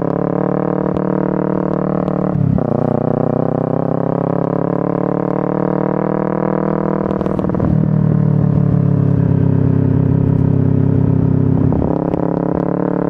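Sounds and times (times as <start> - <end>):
motorcycle engine and exhaust: 0.0 - 13.0.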